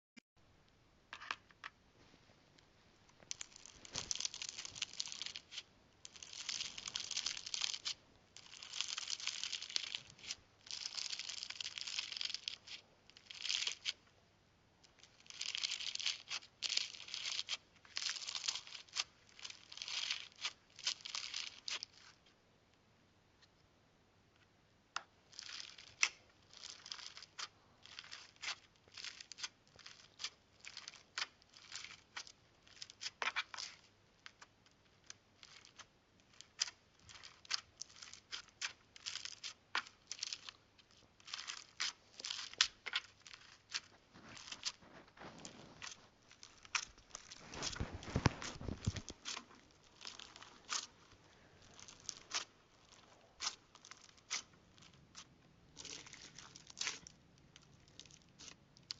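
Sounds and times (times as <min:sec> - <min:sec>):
slime squelch: 0:03.1 - 0:14.1, 0:14.8 - 0:22.4, 0:25.0 - 0:58.9
slime crackling and popping: 0:03.2 - 0:14.0, 0:14.8 - 0:22.2, 0:25.2 - 0:58.9.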